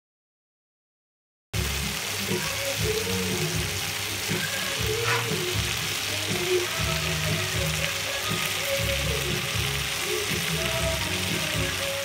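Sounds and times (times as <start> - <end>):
background music: 1.6 - 12.0
food sizzling in a wok: 1.6 - 12.0.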